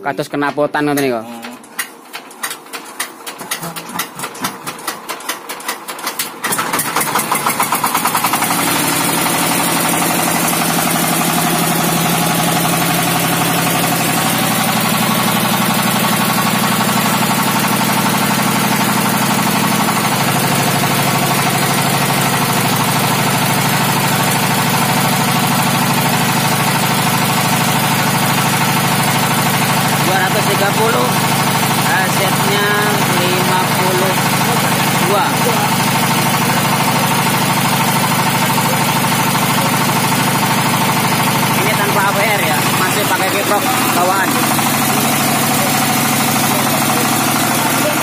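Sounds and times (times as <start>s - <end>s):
diesel engine running: 6.4s - 48.0s.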